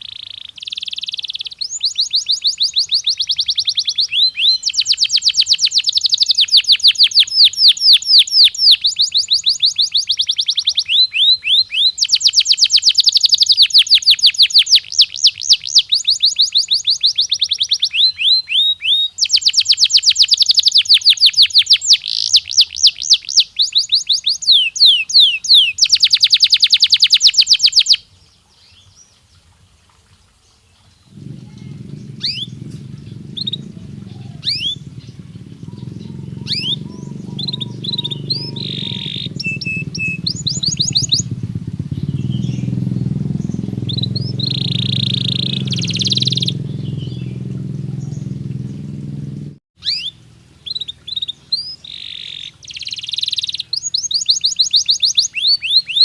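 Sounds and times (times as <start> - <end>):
canary singing trills: 0.0 - 28.0, 31.0 - 56.0.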